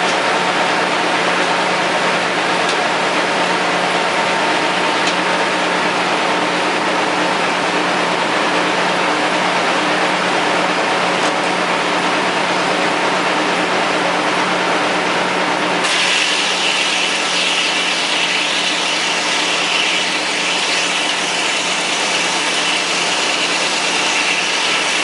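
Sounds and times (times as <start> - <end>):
dense mechanical noise: 0.0 - 25.0
diesel engine running: 0.0 - 25.0.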